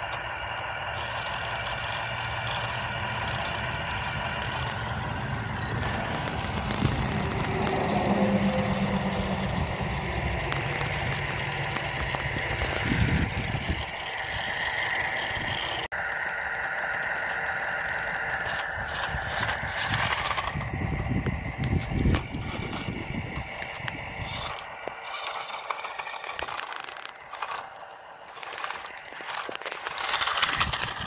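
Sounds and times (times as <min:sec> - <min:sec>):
toy truck motor whine: 0:00.0 - 0:31.0
wheels crunching and rattling: 0:00.0 - 0:31.0.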